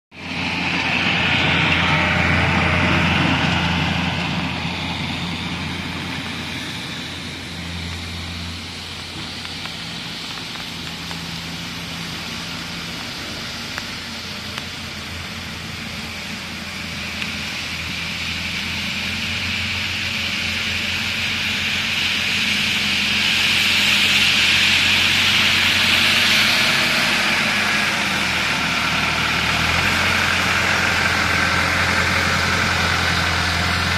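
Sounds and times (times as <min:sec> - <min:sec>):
tractor engine running: 0:00.1 - 0:33.9
rotary brush sweeping snow: 0:00.4 - 0:33.9.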